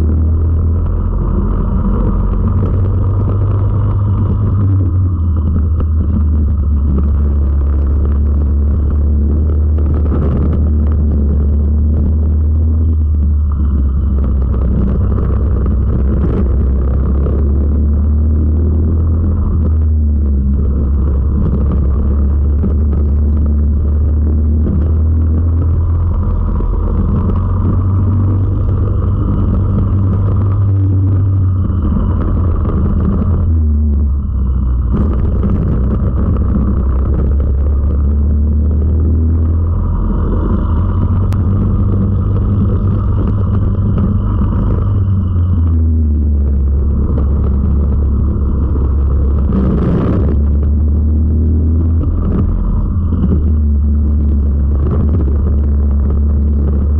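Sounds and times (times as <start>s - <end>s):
kart engine droning: 0.0s - 56.9s.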